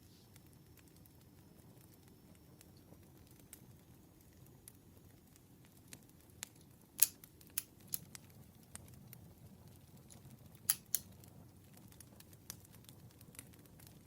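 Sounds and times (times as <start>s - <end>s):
campfire crackling: 0.0s - 14.0s
soft low background noise: 0.0s - 14.0s.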